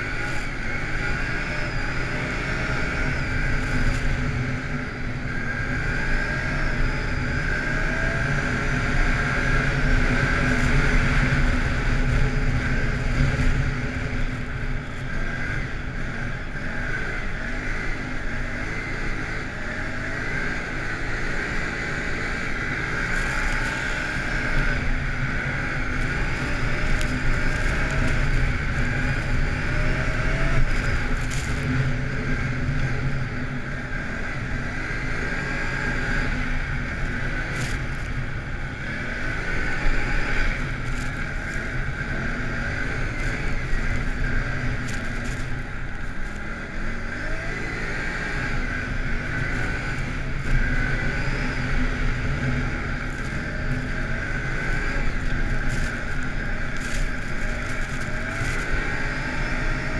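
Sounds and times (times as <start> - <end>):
atv engine running: 0.0 - 59.9
wind rushing over microphone: 0.0 - 59.9.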